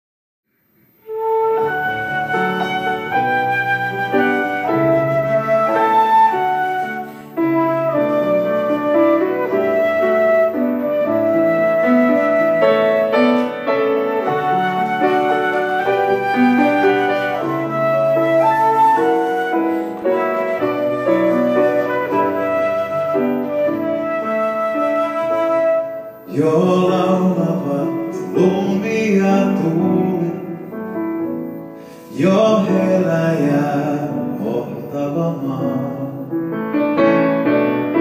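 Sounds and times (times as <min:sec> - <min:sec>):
piano: 0:00.5 - 0:38.0
flute: 0:01.0 - 0:36.4.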